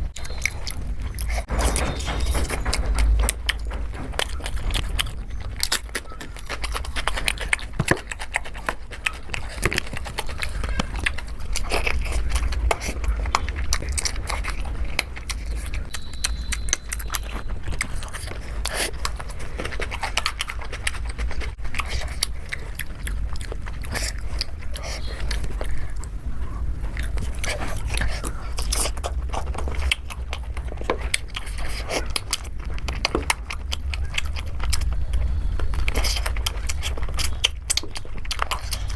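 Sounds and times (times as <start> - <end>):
person chewing and biting: 0.0 - 38.9
steady low hum: 0.0 - 38.9.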